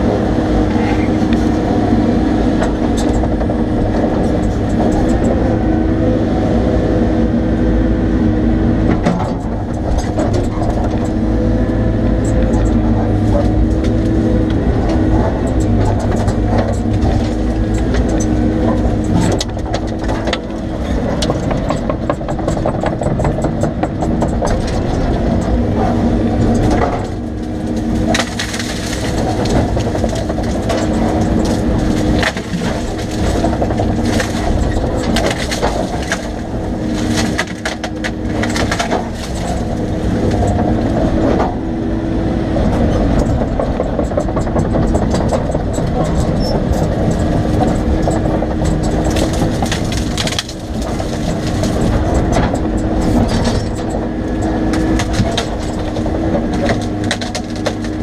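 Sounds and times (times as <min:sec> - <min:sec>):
excavator diesel engine: 0:00.0 - 0:58.0
wood cracking and splintering: 0:08.8 - 0:58.0.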